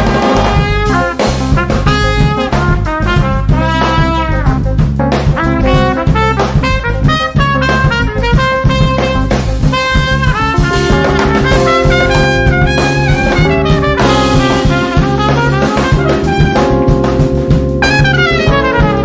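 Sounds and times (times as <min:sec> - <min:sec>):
drum kit: 0:00.0 - 0:19.0
electric bass guitar: 0:00.0 - 0:19.0
trumpet playing melody: 0:00.0 - 0:19.0.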